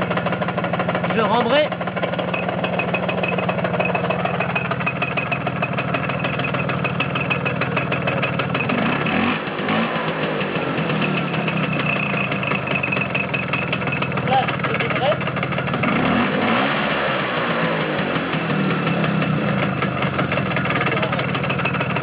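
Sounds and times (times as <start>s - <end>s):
scooter engine idling with rattle: 0.0s - 22.0s.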